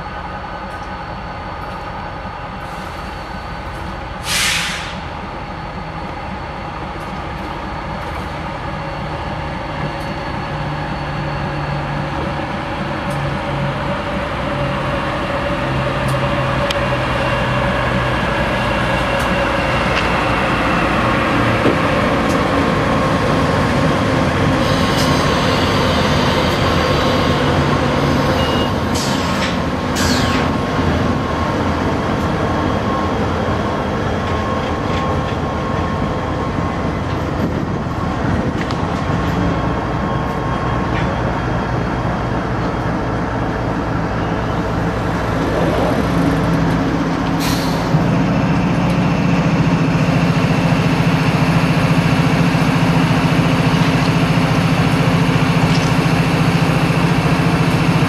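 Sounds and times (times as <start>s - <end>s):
diesel locomotives idling: 0.0s - 58.0s
train rolling and braking: 0.0s - 58.0s
wheel and rail noise: 0.0s - 58.0s.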